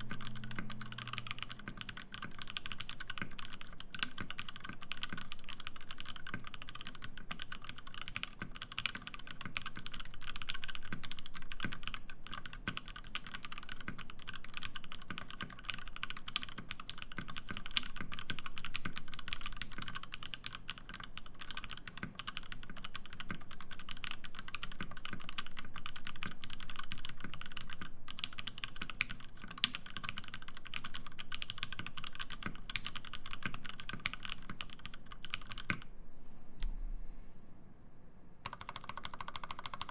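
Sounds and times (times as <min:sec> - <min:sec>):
fast mechanical keyboard typing: 0:00.0 - 0:35.8, 0:38.4 - 0:39.9.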